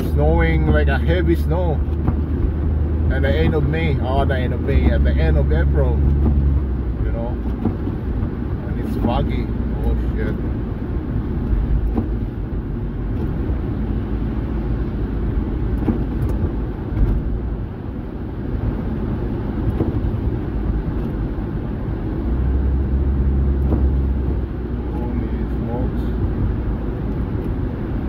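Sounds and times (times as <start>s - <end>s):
car engine and tyres rumble: 0.0s - 28.0s.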